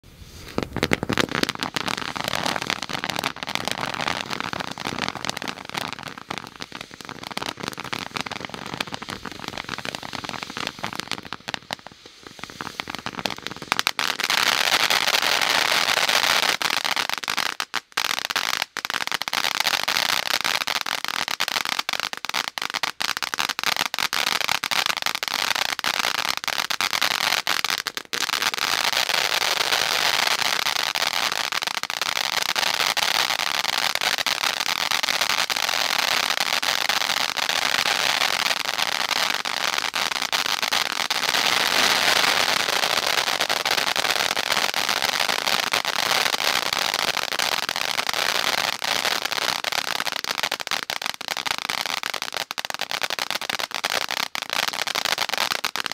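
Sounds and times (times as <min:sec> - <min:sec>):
firework fountain hissing and crackling: 0:00.0 - 0:55.9.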